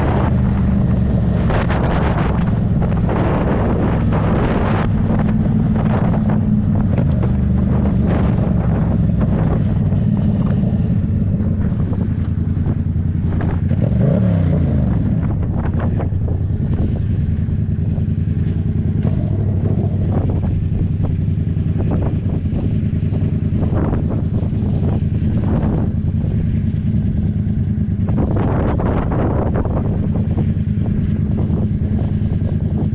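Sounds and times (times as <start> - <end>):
motorcycle engine running: 0.0 - 32.9
wind buffeting microphone: 0.0 - 32.9.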